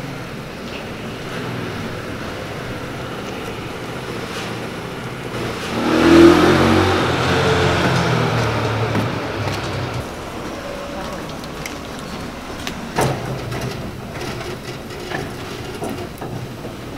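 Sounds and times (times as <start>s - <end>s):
outdoor rumble: 0.0s - 16.9s
vehicle engine: 0.0s - 16.9s.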